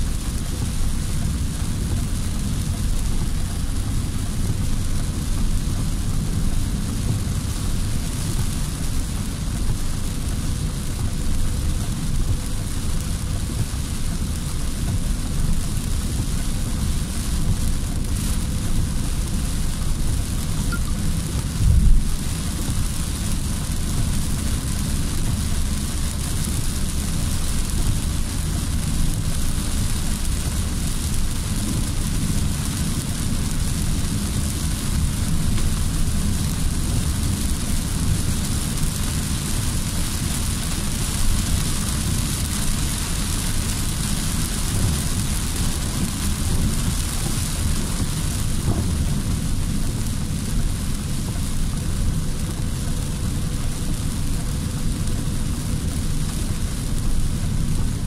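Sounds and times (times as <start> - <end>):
heavy rain drumming on car roof: 0.0 - 58.0
low rumble of moving car: 0.0 - 58.0.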